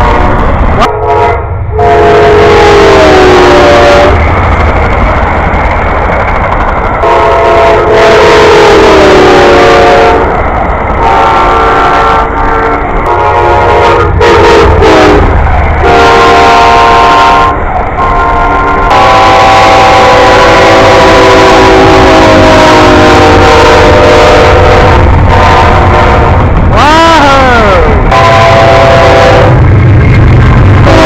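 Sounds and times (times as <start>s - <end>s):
locomotive air horn blasts: 0.0s - 4.2s, 7.0s - 10.2s, 11.0s - 26.5s, 27.8s - 29.6s, 30.8s - 31.0s
rumble of passing train: 0.0s - 31.0s.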